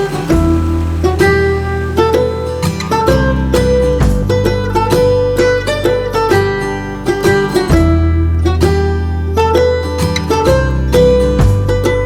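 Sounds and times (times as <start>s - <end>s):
steady bass: 0.0s - 12.0s
upbeat plucked-string music: 0.0s - 12.0s.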